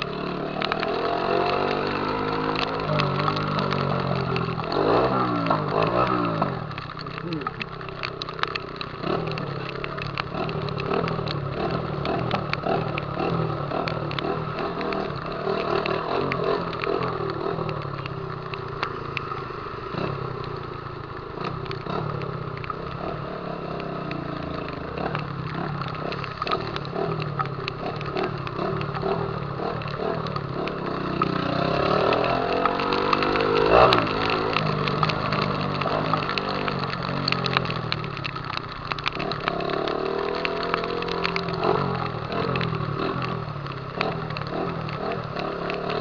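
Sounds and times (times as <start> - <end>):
exhaust crackles: 0.0 - 46.0
motorcycle engine revving: 0.0 - 46.0.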